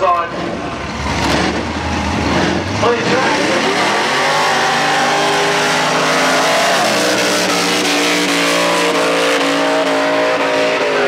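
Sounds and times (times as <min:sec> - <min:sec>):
car engines revving high: 0:00.0 - 0:11.0.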